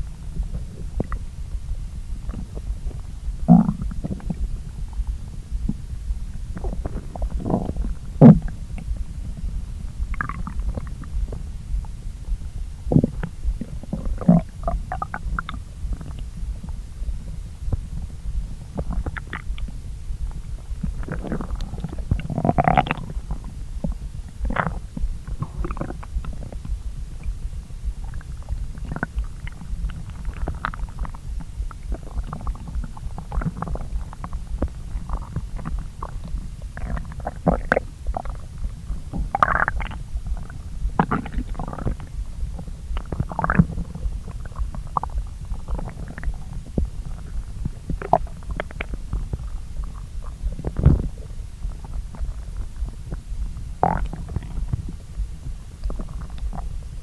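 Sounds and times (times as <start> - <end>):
constant low hum: 0.0 - 57.0
stomach gurgling: 0.0 - 57.0.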